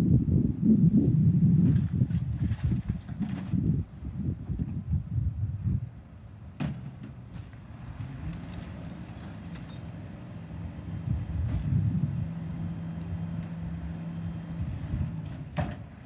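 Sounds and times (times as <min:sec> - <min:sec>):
garbage truck engine rumble: 0:01.4 - 0:05.1, 0:06.4 - 0:16.0.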